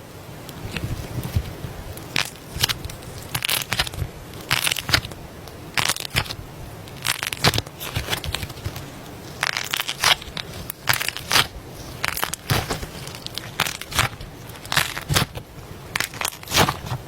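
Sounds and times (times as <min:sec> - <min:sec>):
slime crackling and popping: 0:00.5 - 0:17.0.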